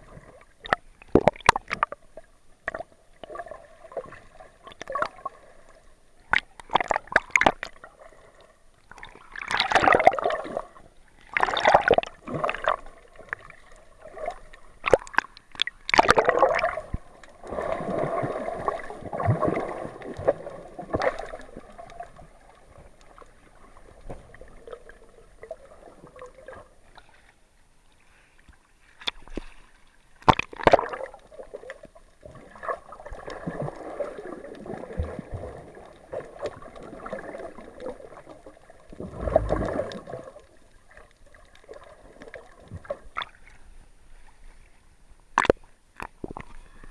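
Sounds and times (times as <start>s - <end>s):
water gurgling and sloshing: 0.0s - 46.9s.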